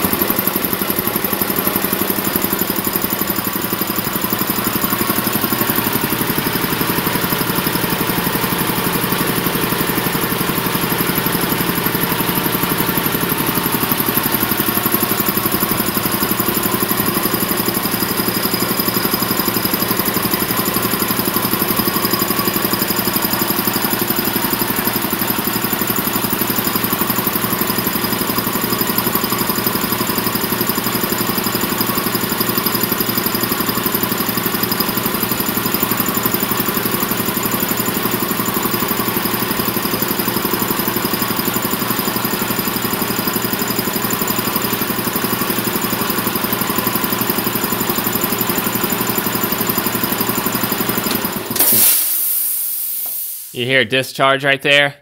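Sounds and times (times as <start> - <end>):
air compressor running: 0.0 - 53.6.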